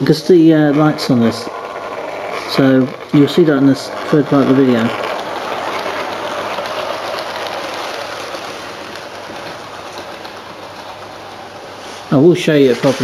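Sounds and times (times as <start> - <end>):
model train running on track: 0.0 - 13.0.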